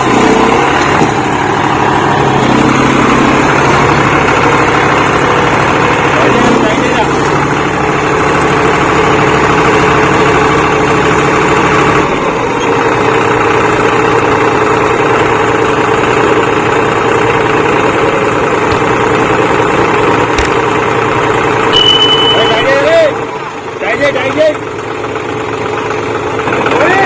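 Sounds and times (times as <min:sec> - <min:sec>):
tractor engines running: 0:00.0 - 0:27.0.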